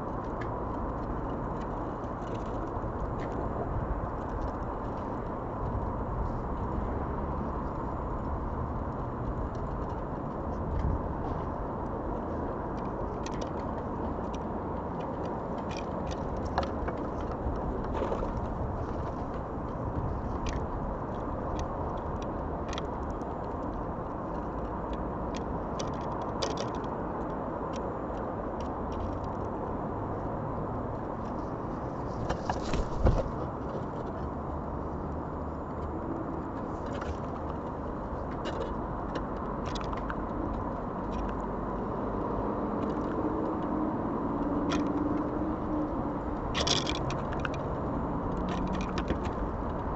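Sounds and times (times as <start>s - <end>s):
light ticks and scrapes: 0.0s - 29.6s, 30.2s - 41.9s, 44.4s - 49.9s
distant road traffic hum: 0.0s - 49.9s.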